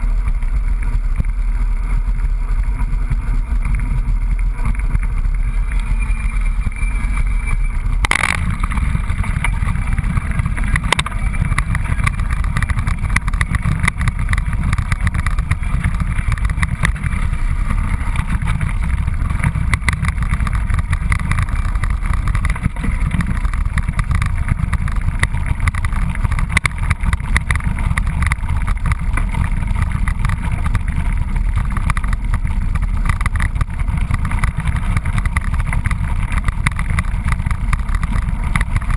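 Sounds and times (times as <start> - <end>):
bike rattling and knocking: 0.0 - 38.9
wind and tyres rumbling: 0.0 - 38.9.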